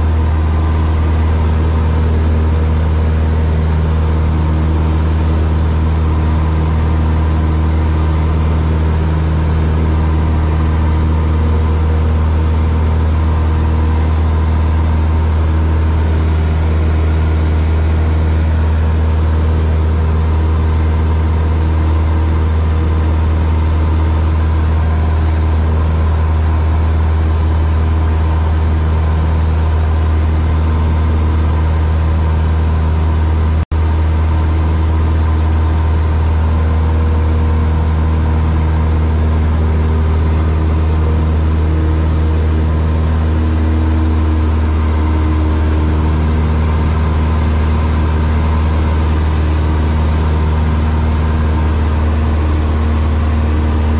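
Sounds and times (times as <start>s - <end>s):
light aircraft engine droning: 0.0s - 53.9s.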